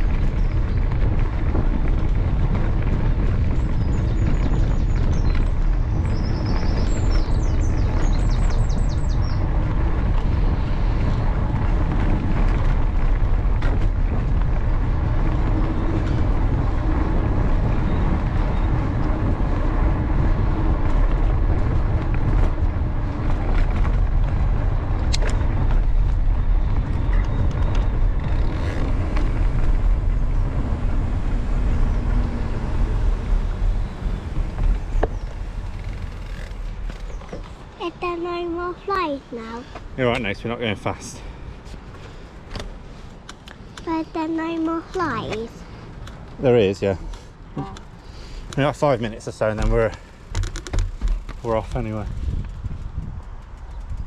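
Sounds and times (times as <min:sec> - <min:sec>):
bike tyre rumble: 0:00.0 - 0:54.0
wind buffeting microphone: 0:00.0 - 0:54.0.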